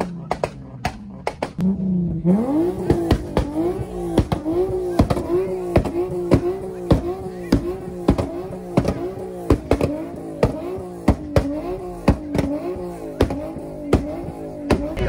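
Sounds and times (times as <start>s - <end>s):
car engine on rev limiter: 0.0s - 15.0s.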